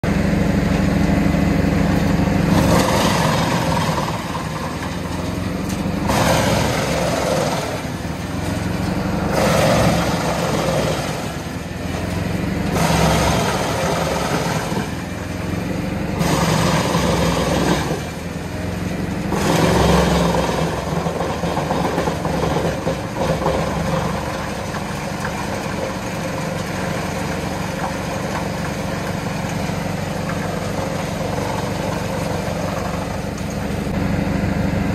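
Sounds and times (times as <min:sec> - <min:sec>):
tractor engine hum: 0:00.0 - 0:34.9
wood chipper chipping wood: 0:00.0 - 0:34.9.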